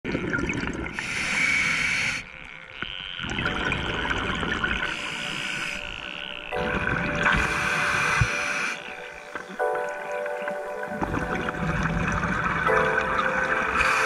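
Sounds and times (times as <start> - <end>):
underwater rushing and bubbling: 0.0 - 14.0.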